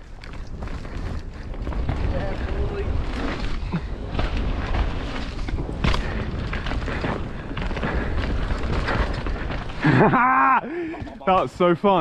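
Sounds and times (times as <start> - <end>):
wind rumble on microphone: 0.0 - 9.8
bike rattling: 0.0 - 12.0
bike tyres on dirt: 0.0 - 12.0.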